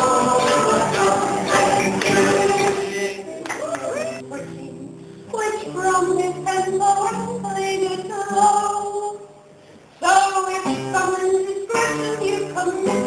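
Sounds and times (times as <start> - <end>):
acoustic guitar: 0.0 - 13.0
woman singing folk song: 0.0 - 13.0.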